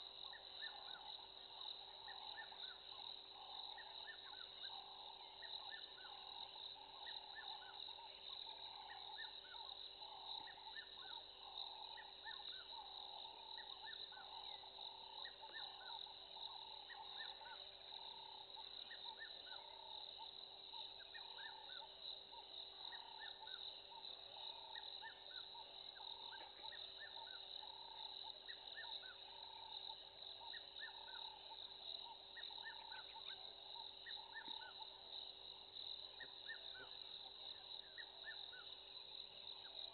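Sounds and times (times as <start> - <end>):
insect chirps: 0.0 - 39.9
pulsing insect call: 0.0 - 39.9.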